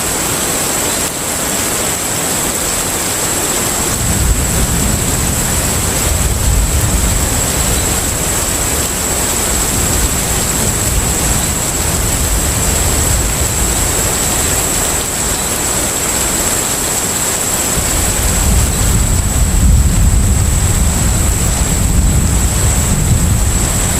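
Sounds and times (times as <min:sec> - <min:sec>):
wind and sea wash: 0:00.0 - 0:23.9.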